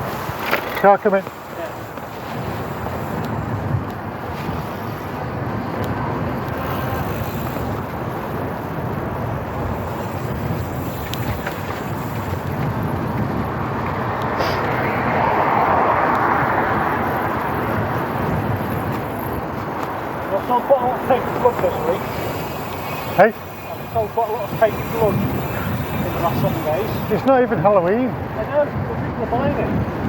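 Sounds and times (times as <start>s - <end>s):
road noise: 0.0s - 30.0s
wind rushing on microphone: 0.0s - 30.0s.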